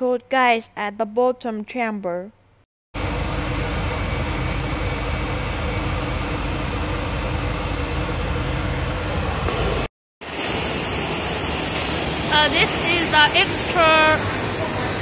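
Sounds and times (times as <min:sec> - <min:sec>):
furnace roaring: 0:03.0 - 0:15.0.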